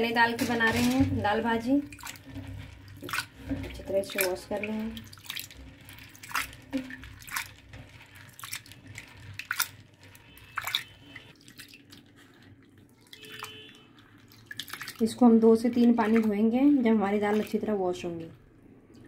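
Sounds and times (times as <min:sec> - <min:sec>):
small splashes and drips: 0:00.0 - 0:19.0
hands swishing lentils in water: 0:00.2 - 0:18.3.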